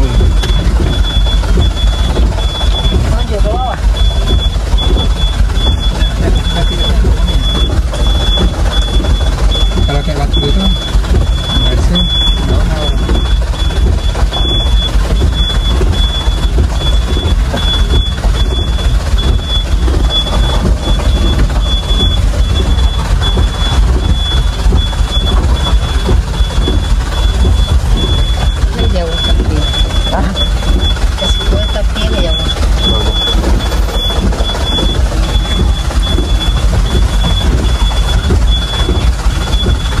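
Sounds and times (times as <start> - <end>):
electronic warning beep: 0.0 - 40.0
low engine rumble: 0.0 - 40.0.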